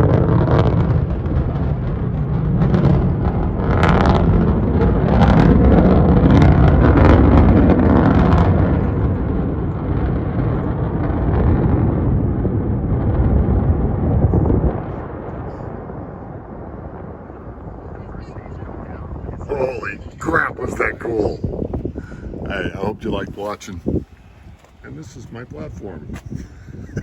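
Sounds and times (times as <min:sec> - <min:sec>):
rocket engine crackling rumble: 0:00.0 - 0:27.0.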